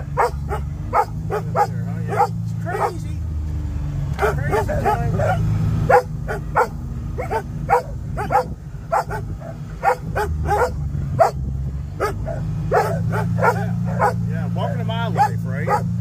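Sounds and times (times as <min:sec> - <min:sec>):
dogs barking excitedly: 0:00.0 - 0:03.2, 0:04.1 - 0:16.0
vehicle engine running: 0:00.0 - 0:16.0.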